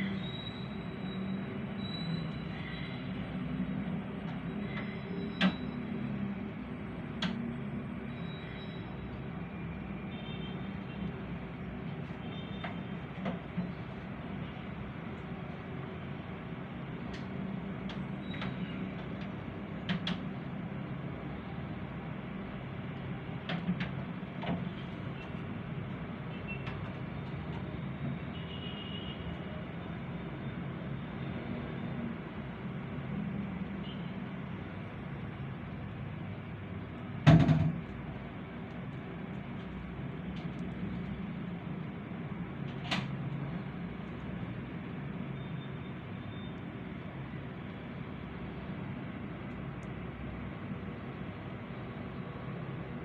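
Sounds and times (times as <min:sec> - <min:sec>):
outdoor ambient rumble: 0:00.0 - 0:53.0.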